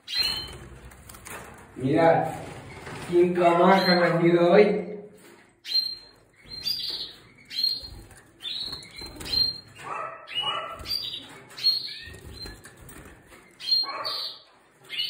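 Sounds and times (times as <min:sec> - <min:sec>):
canaries calling: 0:00.0 - 0:00.9, 0:02.8 - 0:04.6, 0:05.6 - 0:15.0.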